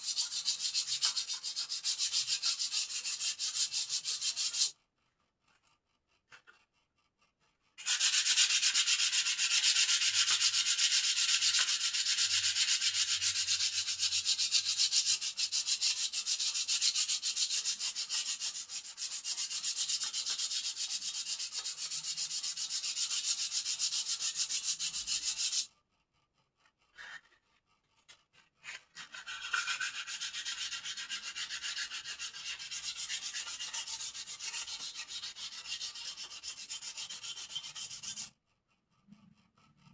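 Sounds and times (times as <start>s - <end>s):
hand sanding scratchy rubbing: 0.0s - 4.7s, 7.8s - 25.7s, 28.6s - 38.3s.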